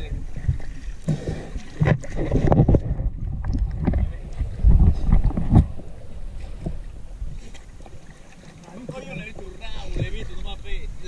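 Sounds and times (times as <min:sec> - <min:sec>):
river water sloshing and splashing: 0:00.0 - 0:10.8
water slapping: 0:00.0 - 0:11.0.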